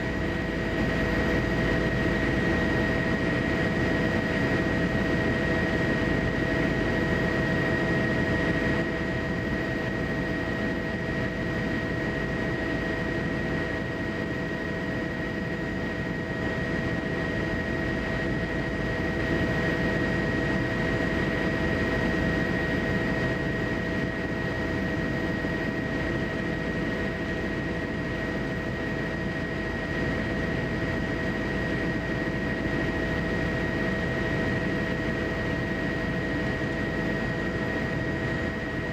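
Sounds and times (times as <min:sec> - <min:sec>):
aircraft engine rumble with whine: 0:00.0 - 0:38.9.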